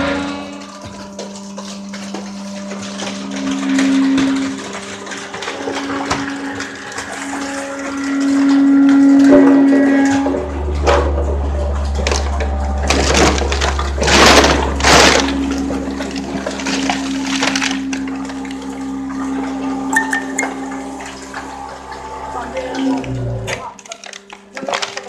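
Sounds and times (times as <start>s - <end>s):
hydraulic pump motor humming: 0.0s - 25.0s.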